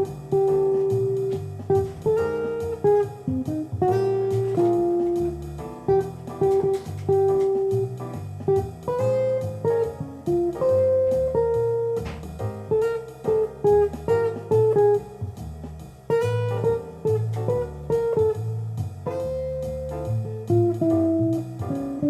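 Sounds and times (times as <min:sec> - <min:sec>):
bass line: 0:00.0 - 0:22.0
plucked guitar notes: 0:00.0 - 0:22.0.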